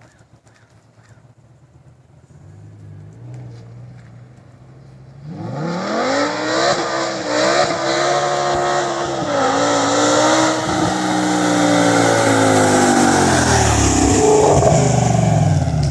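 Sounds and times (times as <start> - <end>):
car engine accelerating hard: 2.4 - 15.9.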